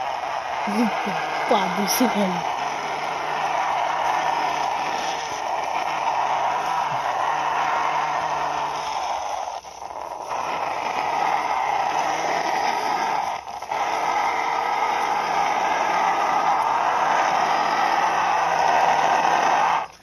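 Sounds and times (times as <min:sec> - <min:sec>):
toy excavator scraping on concrete: 0:00.0 - 0:20.0.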